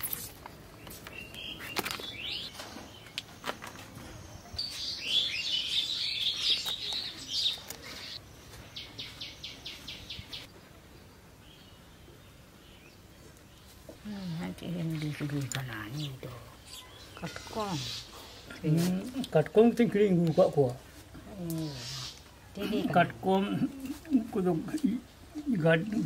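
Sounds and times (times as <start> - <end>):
small birds chirping: 0.7 - 26.0.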